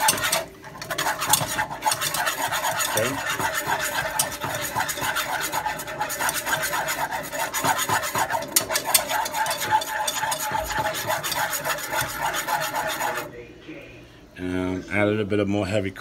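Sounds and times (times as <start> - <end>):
whisk scraping saucepan: 0.0 - 13.4.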